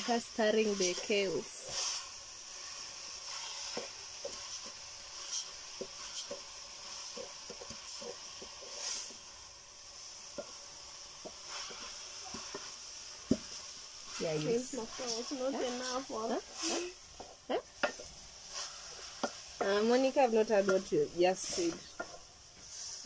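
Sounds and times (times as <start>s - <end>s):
wooden spoon scraping a pot: 0.0s - 9.3s, 10.2s - 23.0s
greens sizzling in a metal pot: 0.0s - 23.0s.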